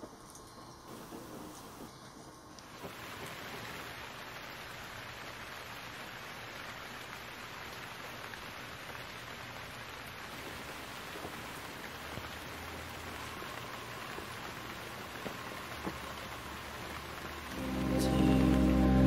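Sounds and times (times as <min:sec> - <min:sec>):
fire crackles: 0:00.0 - 0:19.0
wood fire hissing: 0:00.0 - 0:19.0.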